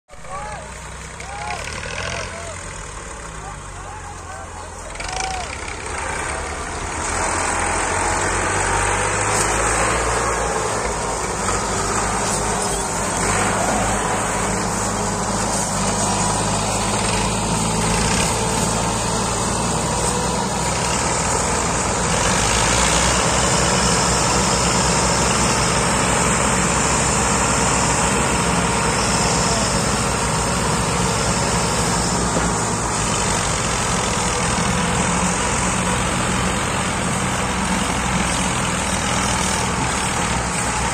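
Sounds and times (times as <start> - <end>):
tractor engines under load: 0.1 - 40.9.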